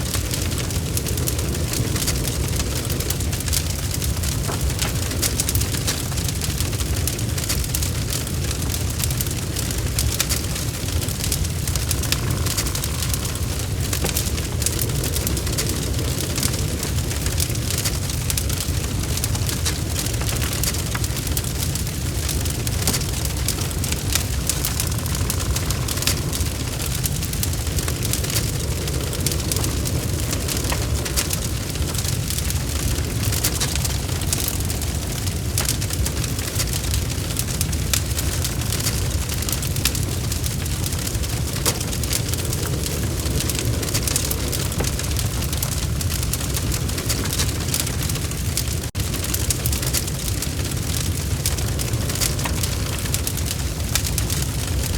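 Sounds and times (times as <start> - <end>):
fire crackles and pops: 0.0 - 54.9
log fire roaring: 0.0 - 54.9.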